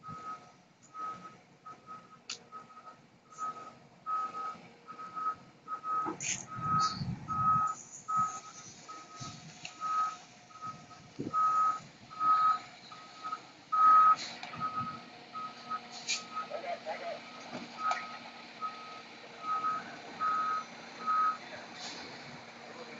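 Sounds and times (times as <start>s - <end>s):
reversing alarm beeping: 0.0s - 16.6s, 17.2s - 21.4s
truck engine rumble: 0.0s - 22.9s.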